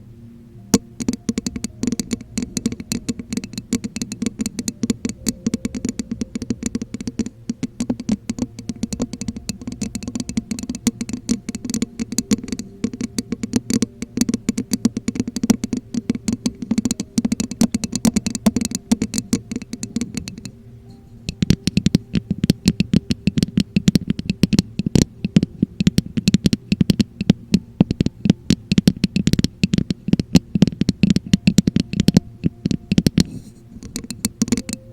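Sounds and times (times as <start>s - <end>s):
fingertip tapping and scratching: 0.7s - 34.9s.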